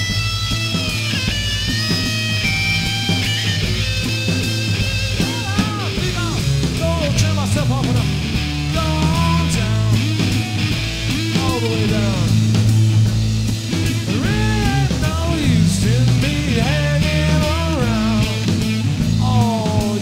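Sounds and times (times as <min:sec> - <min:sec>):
drums: 0:00.0 - 0:20.0
electric guitar lead with bends: 0:00.0 - 0:20.0
steady low bass line: 0:00.0 - 0:20.0.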